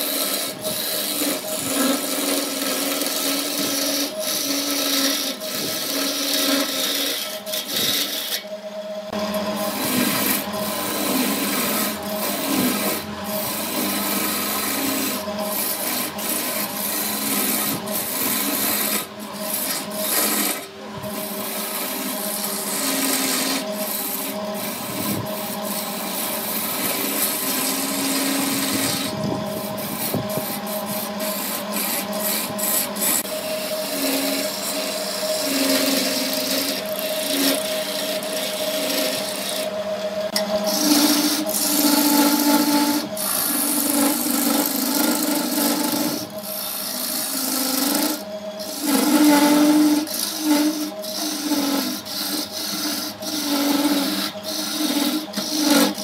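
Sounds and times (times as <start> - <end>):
chisel scraping spinning wood: 0.0 - 56.0
wood lathe motor hum: 0.0 - 56.0.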